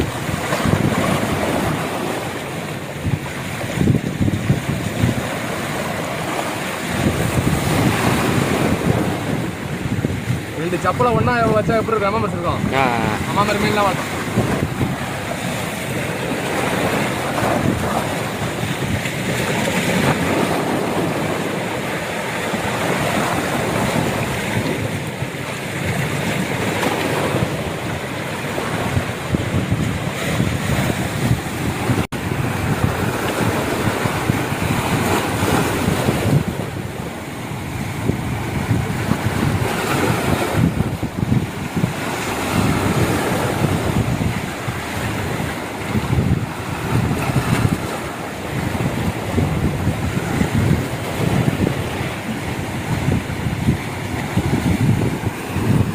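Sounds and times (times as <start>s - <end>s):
surf breaking against rocks: 0.0s - 55.9s
wind buffeting microphone: 0.0s - 55.9s.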